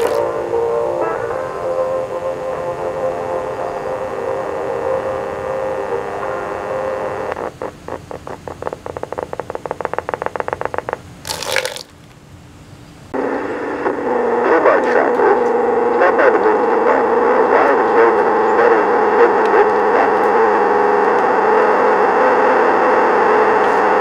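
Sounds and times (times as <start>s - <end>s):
distorted tape playback: 0.0s - 11.5s, 13.1s - 24.0s
tape hiss: 0.0s - 24.0s.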